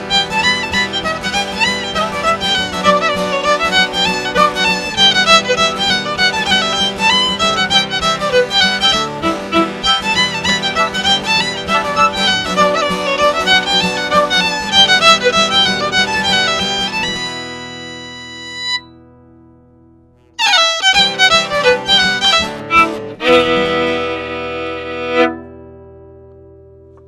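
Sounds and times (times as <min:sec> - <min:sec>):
fiddle playing fast dance tune: 0:00.0 - 0:18.9, 0:20.4 - 0:25.4.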